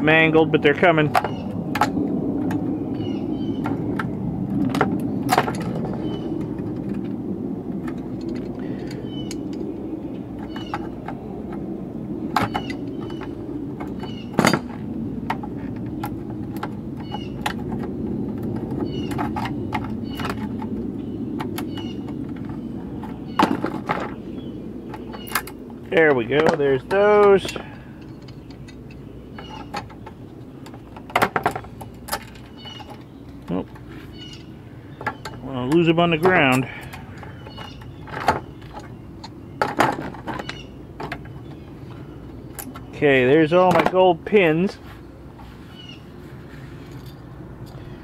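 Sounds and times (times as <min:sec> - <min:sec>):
steady low drone: 0:00.0 - 0:48.0.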